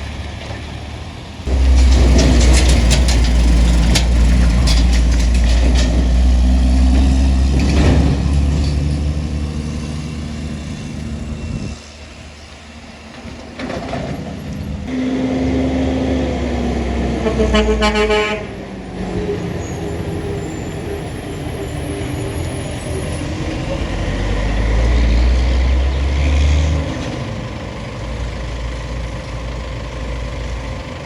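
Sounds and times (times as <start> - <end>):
heavy truck engine passing: 0.0 - 31.0
vehicle engine approaching: 0.0 - 31.0.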